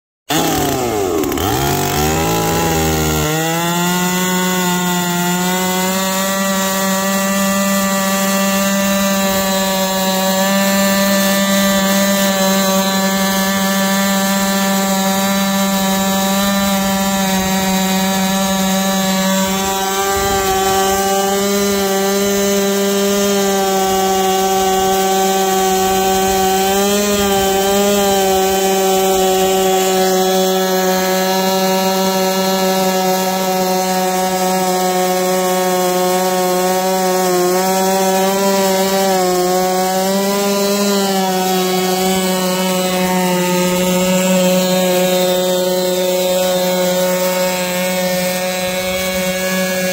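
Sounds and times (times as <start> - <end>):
chainsaw cutting log: 0.3 - 49.9.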